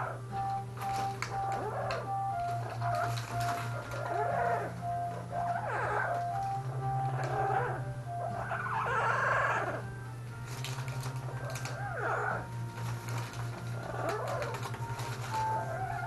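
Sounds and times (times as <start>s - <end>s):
parrot purring: 0.0s - 16.0s.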